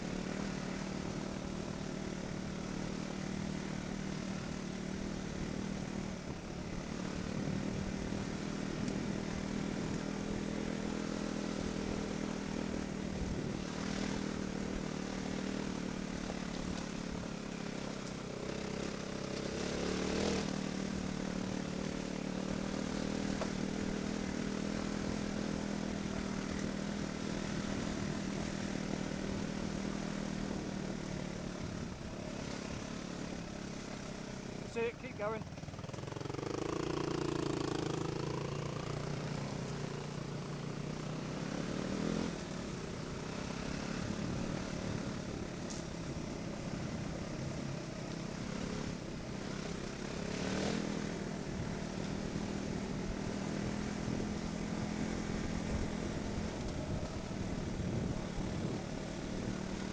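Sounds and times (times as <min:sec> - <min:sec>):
motorcycle engine running: 0:00.0 - 0:59.9
wind: 0:00.0 - 0:59.9.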